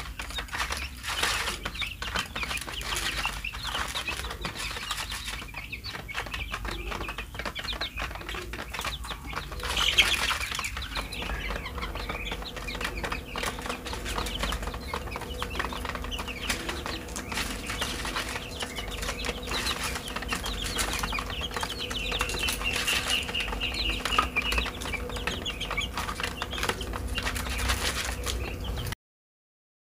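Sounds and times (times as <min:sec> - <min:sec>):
beaks pecking grain in plastic tray: 0:00.0 - 0:29.0
chicks peeping: 0:00.0 - 0:29.0.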